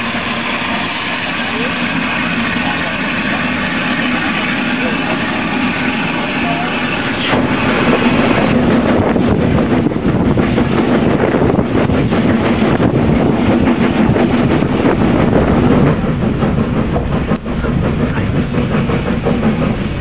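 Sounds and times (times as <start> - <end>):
steam locomotive running: 0.0 - 20.0
wheels clattering over rails: 0.0 - 20.0.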